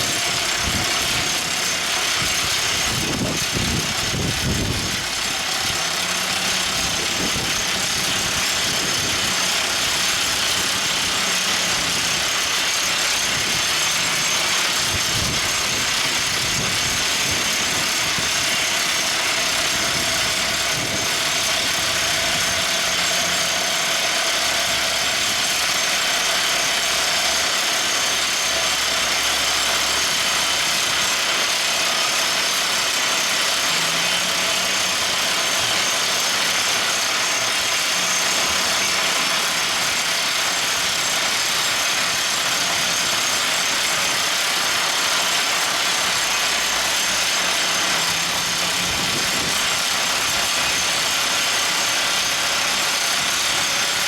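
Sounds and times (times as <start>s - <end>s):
drill rig hissing: 0.0s - 54.0s.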